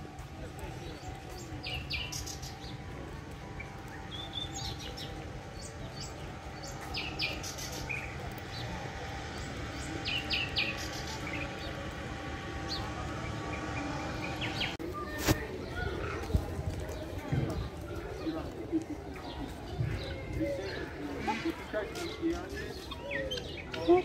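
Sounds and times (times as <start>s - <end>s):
low background murmur: 0.0s - 24.0s
small birds chirping: 0.5s - 24.0s.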